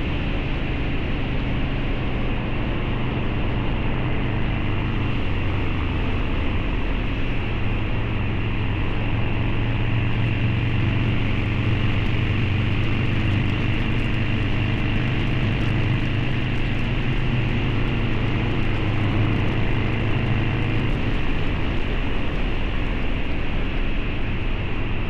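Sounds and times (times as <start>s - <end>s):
road rush: 0.0s - 25.0s.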